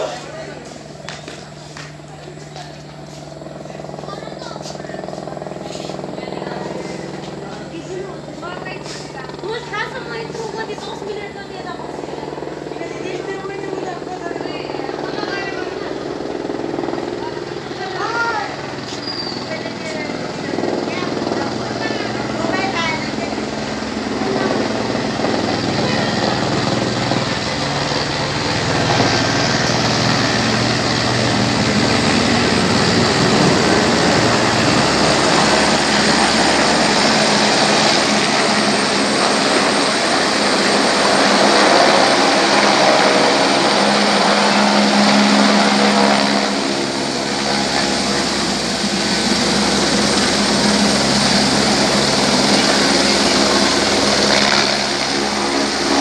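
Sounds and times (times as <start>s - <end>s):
helicopter rotor and turbine: 0.0s - 56.0s.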